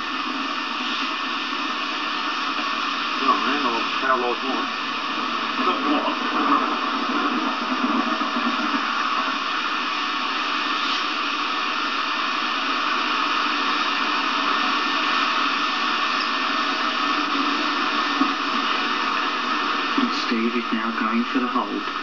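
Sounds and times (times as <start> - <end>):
faint hum: 0.0 - 22.0
videotape hiss: 0.0 - 22.0.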